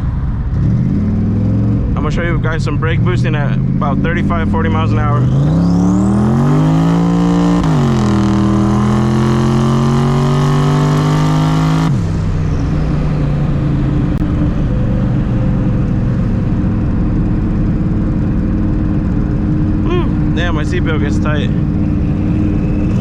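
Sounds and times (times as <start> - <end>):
car engine revving at full throttle: 0.0 - 23.0.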